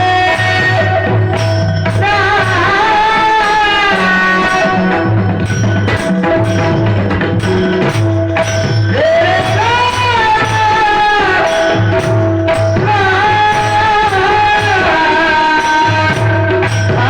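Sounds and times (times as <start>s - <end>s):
person singing: 0.0s - 6.8s, 8.9s - 17.0s
hand-drum beat: 0.0s - 17.0s
held melody line: 0.0s - 17.0s
jingling percussion: 0.0s - 17.0s.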